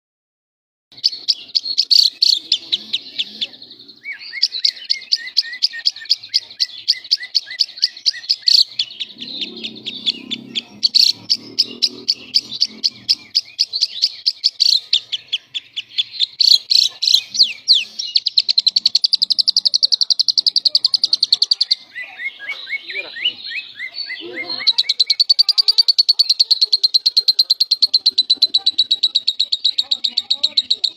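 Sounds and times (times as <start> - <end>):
bird chirping and chattering: 0.9 - 30.9.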